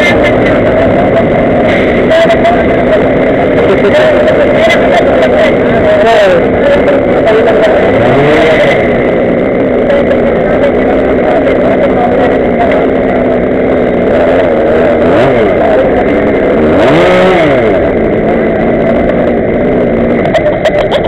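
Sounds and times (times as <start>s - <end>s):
small two-stroke engine revving: 0.0s - 21.0s.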